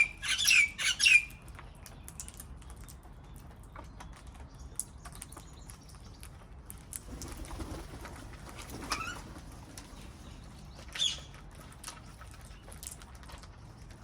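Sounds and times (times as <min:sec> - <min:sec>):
faint parrot clicks and rustles: 0:01.3 - 0:14.0.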